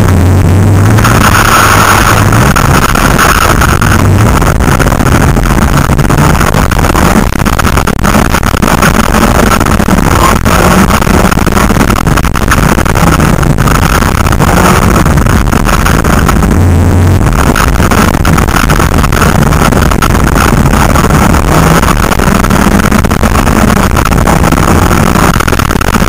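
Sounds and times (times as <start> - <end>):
car engine running hard: 0.0 - 26.0
tyres rushing on dirt: 0.0 - 26.0.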